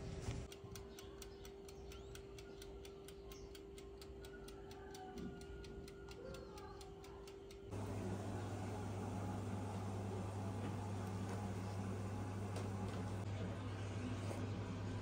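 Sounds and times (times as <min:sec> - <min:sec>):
oven humming: 0:00.0 - 0:15.0
oven timer ticking: 0:00.5 - 0:13.3.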